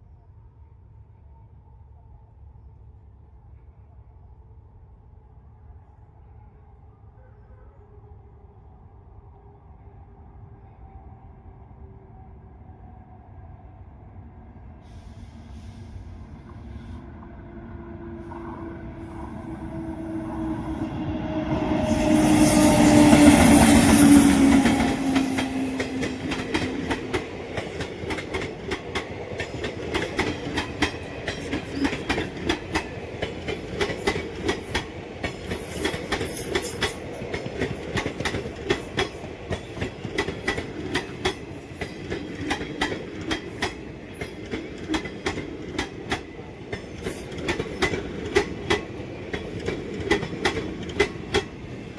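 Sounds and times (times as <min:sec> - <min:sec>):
train passing: 0:00.0 - 0:51.9.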